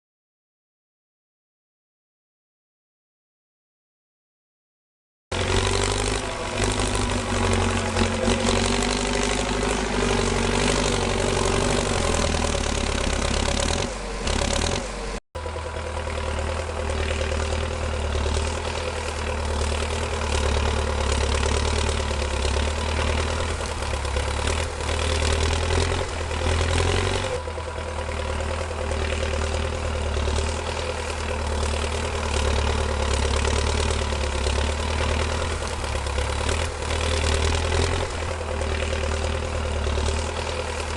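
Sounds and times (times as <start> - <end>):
small engine humming: 5.3 - 40.9.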